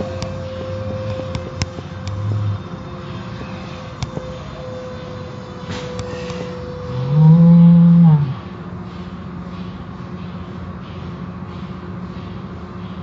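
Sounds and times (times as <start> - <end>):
low hum: 0.0 - 12.3
car wash machinery whine: 0.0 - 13.0.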